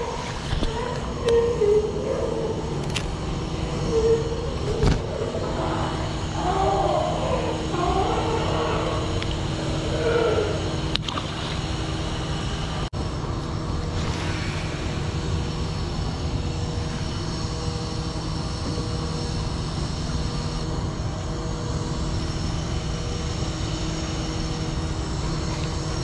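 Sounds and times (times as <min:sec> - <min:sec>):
machinery drone: 0:00.0 - 0:26.0.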